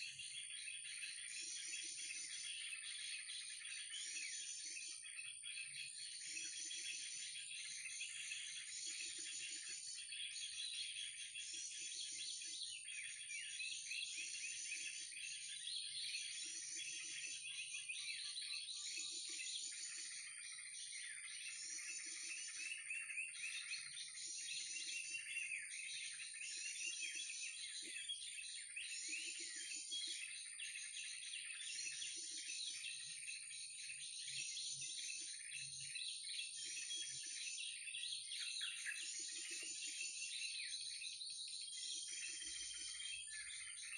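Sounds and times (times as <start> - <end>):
looped bird calls twittering: 0.0 - 43.9.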